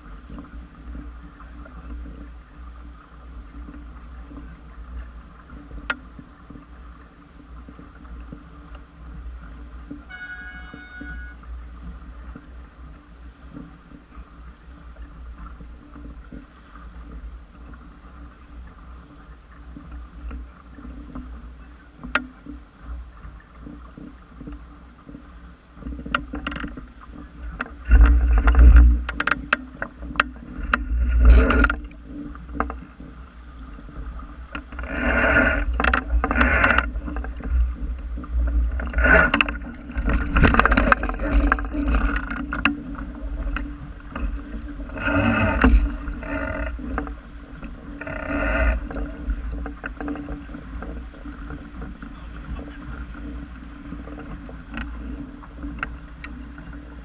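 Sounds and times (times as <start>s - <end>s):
constant low rumble: 0.0s - 57.0s
water splashing against a boat: 0.0s - 57.0s.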